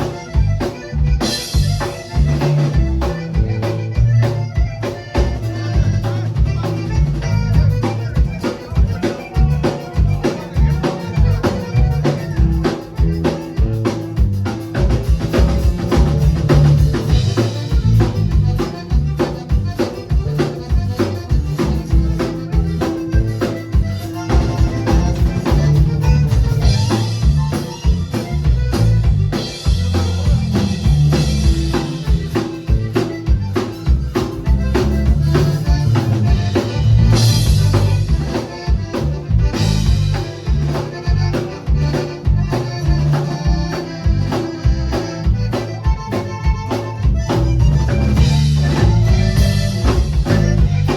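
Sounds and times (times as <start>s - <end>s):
accordion: 0.0s - 50.9s
drum kit beat: 0.0s - 50.9s
live band music: 0.0s - 50.9s.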